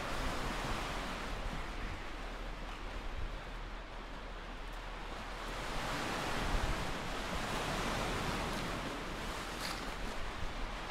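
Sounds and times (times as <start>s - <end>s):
sea surf washing on shore: 0.0s - 10.9s.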